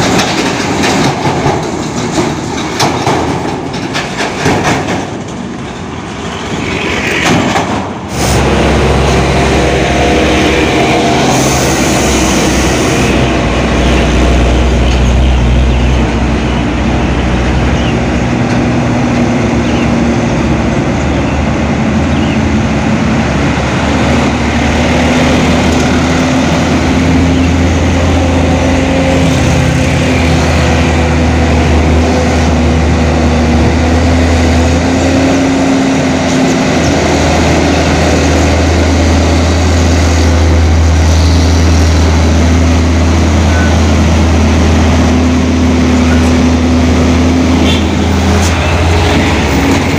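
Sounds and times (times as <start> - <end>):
heavy truck engine running: 0.0 - 49.9.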